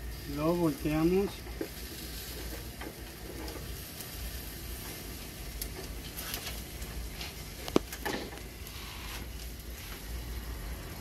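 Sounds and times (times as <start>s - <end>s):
fish sizzling on grill: 0.0s - 11.0s.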